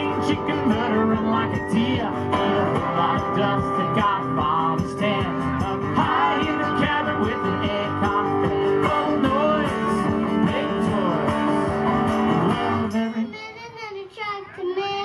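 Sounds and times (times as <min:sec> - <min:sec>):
country band playing: 0:00.0 - 0:13.2.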